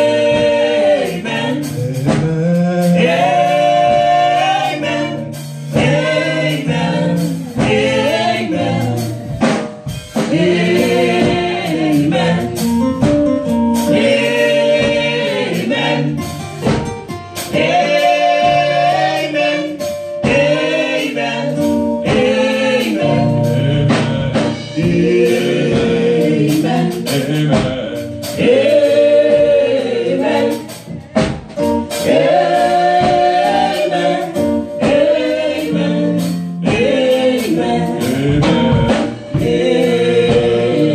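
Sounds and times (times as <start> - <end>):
drum beat: 0.0 - 40.9
women singing gospel: 0.0 - 40.9.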